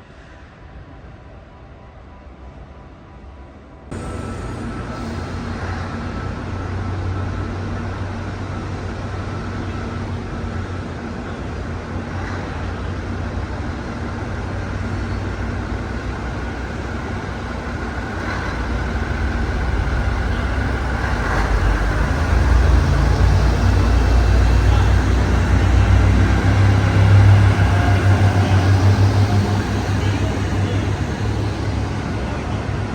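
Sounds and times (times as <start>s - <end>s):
diesel railcar engine humming: 0.2s - 32.9s.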